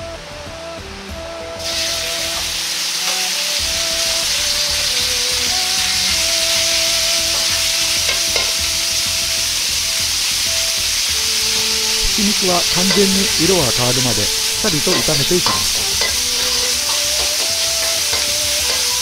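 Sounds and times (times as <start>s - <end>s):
meat sizzling in hot oil: 1.6s - 19.0s.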